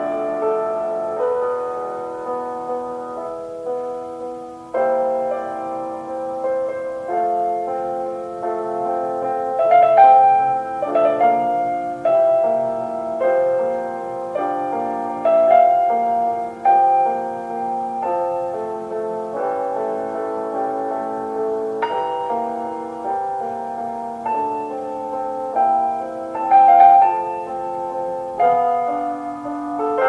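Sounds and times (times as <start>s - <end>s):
slow classical piano: 0.0s - 30.0s.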